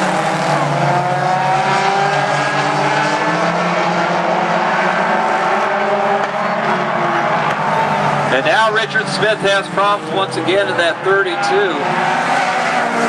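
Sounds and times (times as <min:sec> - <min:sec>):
race car engines on oval track: 0:00.0 - 0:13.0.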